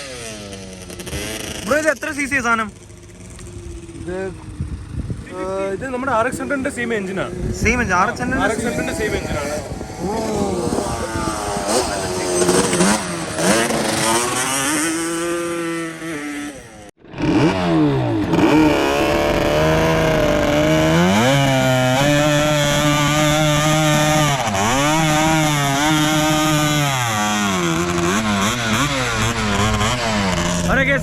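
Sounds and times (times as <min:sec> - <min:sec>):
two-stroke engine revving: 0:00.0 - 0:31.0.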